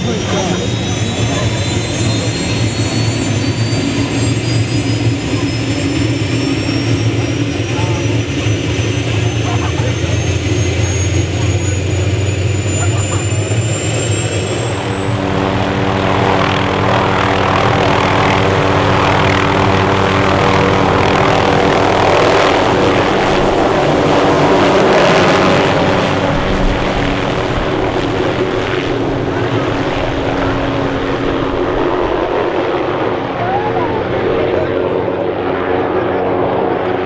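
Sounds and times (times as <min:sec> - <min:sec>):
small aircraft engine running: 0:00.0 - 0:37.0.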